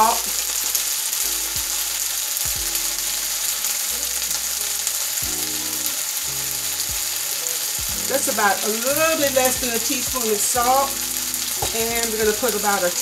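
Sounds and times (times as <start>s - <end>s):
okra sizzling in a skillet: 0.0s - 13.0s.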